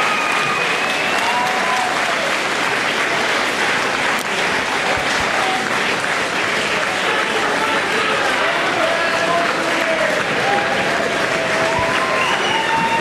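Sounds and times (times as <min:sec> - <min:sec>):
audience applauding: 0:00.0 - 0:13.0
faint voices: 0:00.0 - 0:13.0.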